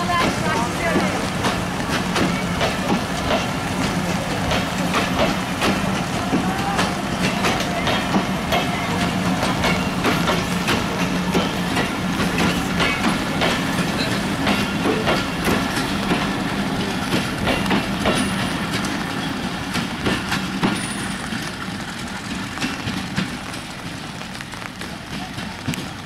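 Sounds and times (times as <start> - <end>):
steady train hum: 0.0 - 26.0
train wheels clattering: 0.0 - 26.0.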